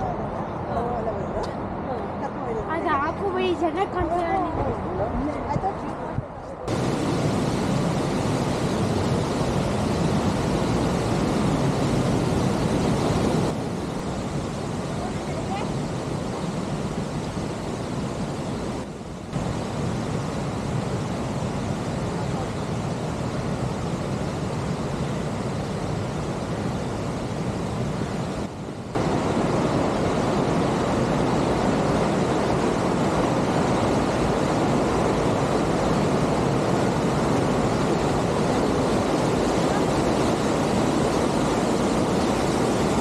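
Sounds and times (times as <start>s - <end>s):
mountain creek rushing: 6.7s - 43.0s.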